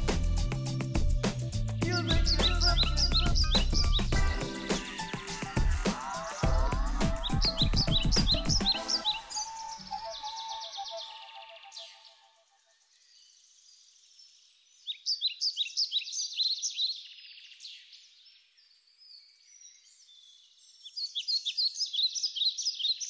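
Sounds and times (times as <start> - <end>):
birds chirping and twittering: 1.6 - 23.0.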